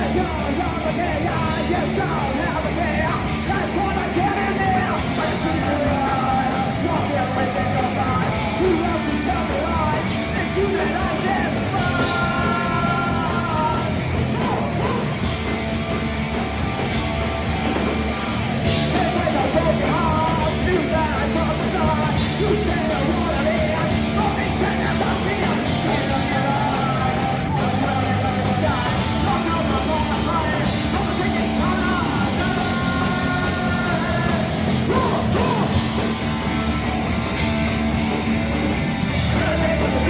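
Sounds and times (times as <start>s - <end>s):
person yelling singing: 0.0s - 15.6s, 18.2s - 37.4s, 38.5s - 40.0s
punk rock band music: 0.0s - 40.0s.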